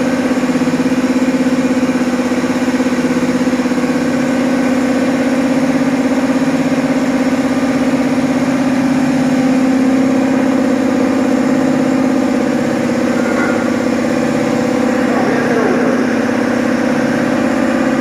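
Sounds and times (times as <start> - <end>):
pump motor humming: 0.0 - 18.0.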